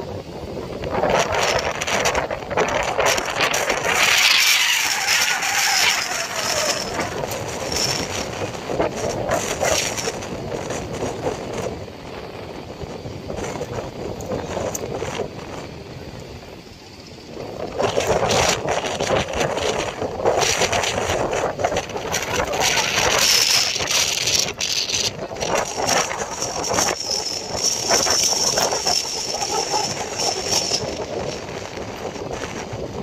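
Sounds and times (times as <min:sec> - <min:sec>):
boat engines running: 0:00.0 - 0:33.0
high steady whine: 0:00.0 - 0:33.0.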